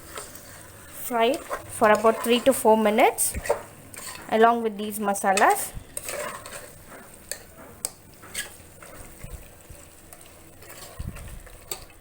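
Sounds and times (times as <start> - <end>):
faint sizzle: 0.0 - 12.0
spoon stirring food in a pan: 0.0 - 12.0.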